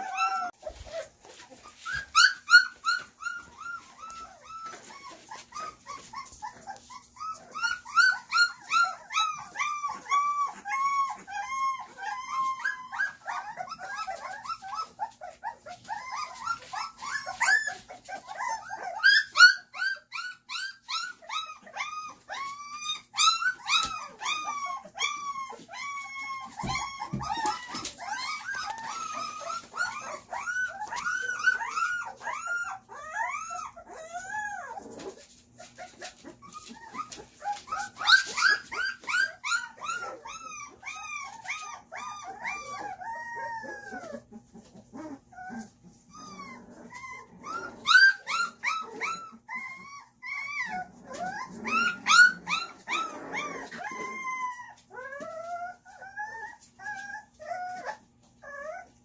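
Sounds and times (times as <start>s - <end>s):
puppies whining and yelping: 0.0s - 59.0s.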